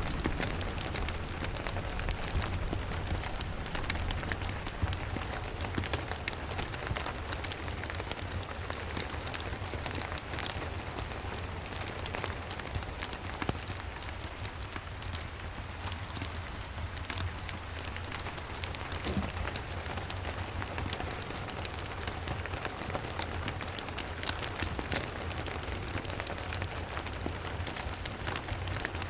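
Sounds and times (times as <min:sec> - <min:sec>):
rain falling on cabin: 0:00.0 - 0:29.0
wood fire crackles: 0:00.0 - 0:29.0.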